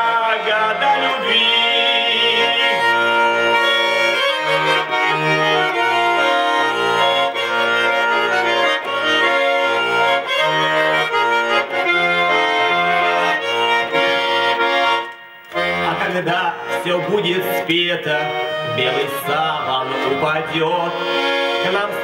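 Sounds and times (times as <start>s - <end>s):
button accordion melody: 0.0s - 22.0s.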